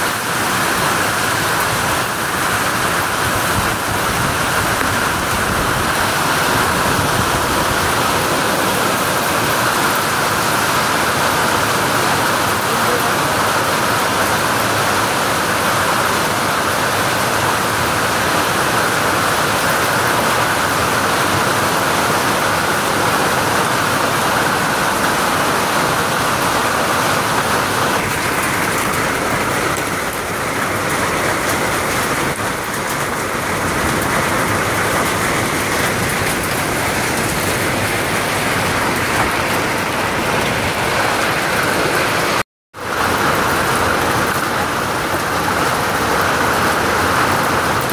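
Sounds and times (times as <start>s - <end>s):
hail and heavy rain pelting: 0.0s - 47.9s.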